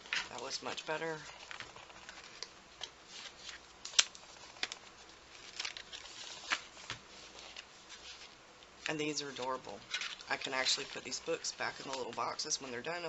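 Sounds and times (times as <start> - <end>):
cardboard and paper rustling: 0.0 - 12.9.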